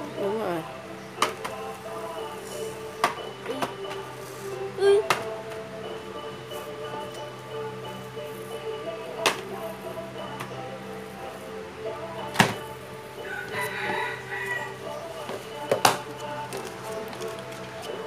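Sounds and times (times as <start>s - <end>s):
steady hum of held tones: 0.0s - 18.0s.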